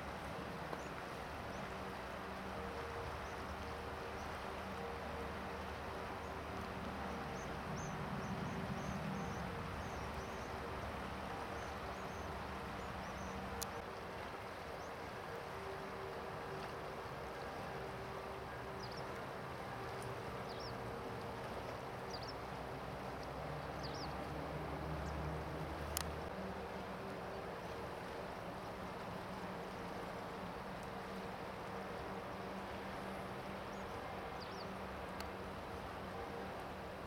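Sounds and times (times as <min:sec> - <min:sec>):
river current rushing: 0:00.0 - 0:37.0.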